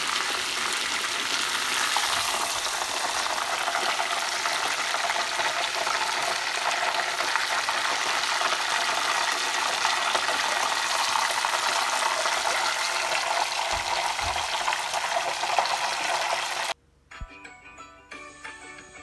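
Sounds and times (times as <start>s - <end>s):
oil sizzling while deep-frying: 0.0s - 16.8s.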